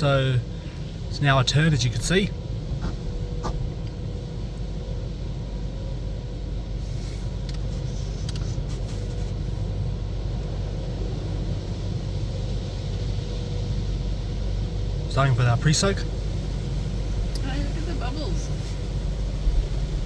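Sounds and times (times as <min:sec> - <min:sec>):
car idling low rumble: 0:00.0 - 0:20.0.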